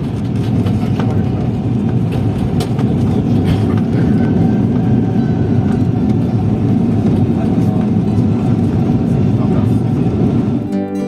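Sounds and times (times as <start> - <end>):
low rumble of aircraft engines: 0.0 - 10.7.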